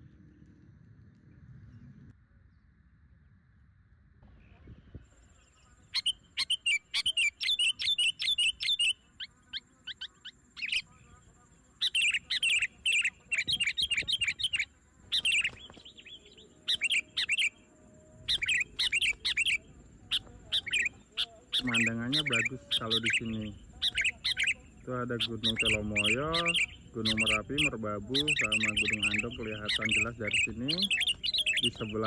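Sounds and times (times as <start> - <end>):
small birds chirping: 4.4 - 32.0.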